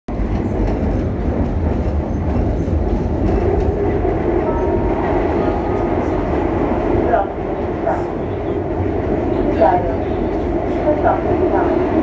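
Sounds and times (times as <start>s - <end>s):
train passing alongside: 0.1s - 12.0s
train wheels rumbling on rails: 0.1s - 12.0s.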